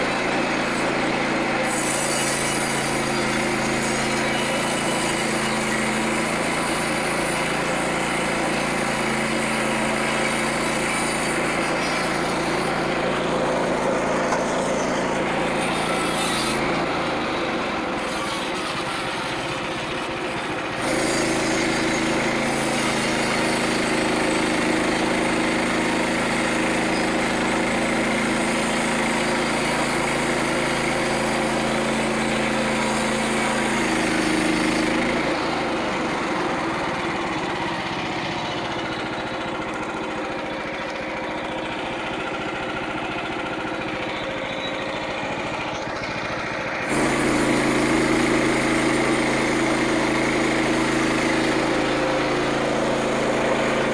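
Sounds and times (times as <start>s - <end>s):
small sawmill engine running: 0.0s - 53.9s.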